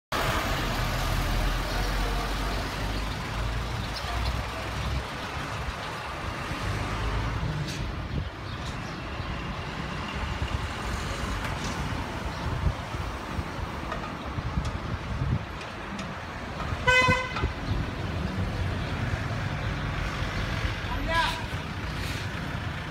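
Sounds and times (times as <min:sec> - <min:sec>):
street traffic noise: 0:00.1 - 0:22.9.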